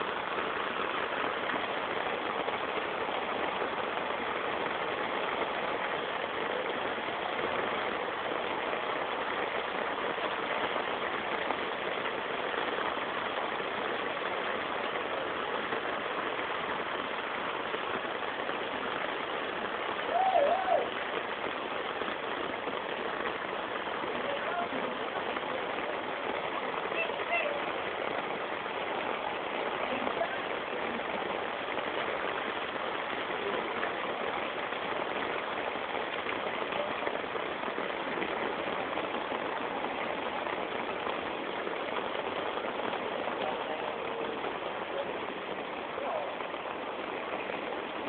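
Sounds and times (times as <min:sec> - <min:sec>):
heavy rain on flooded street: 0:00.0 - 0:48.0.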